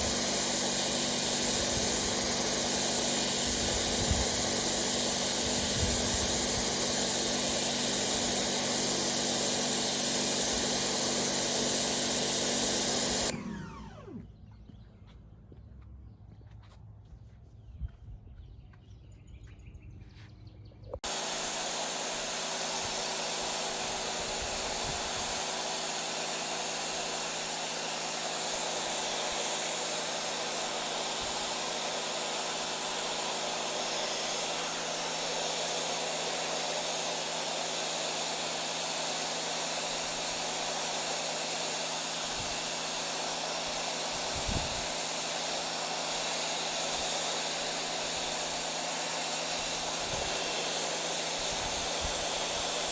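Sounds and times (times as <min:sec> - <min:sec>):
pressure washer jet hissing: 0:00.0 - 0:14.2, 0:21.0 - 0:52.9
motor and pump humming: 0:00.0 - 0:14.8, 0:21.0 - 0:52.9.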